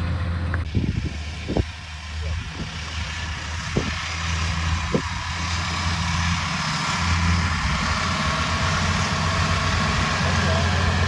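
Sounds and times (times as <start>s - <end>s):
combine harvester diesel engine: 0.0s - 11.0s.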